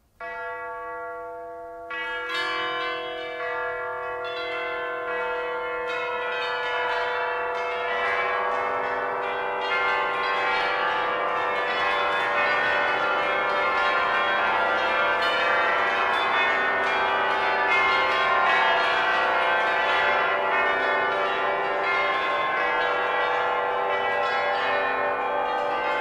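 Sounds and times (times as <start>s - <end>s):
church bells pealing: 0.2s - 26.0s.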